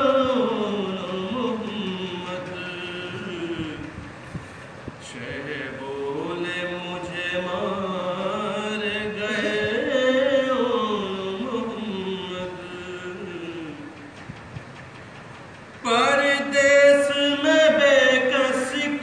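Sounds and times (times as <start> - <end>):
man chanting: 0.0 - 4.0, 5.0 - 14.0, 15.8 - 19.0.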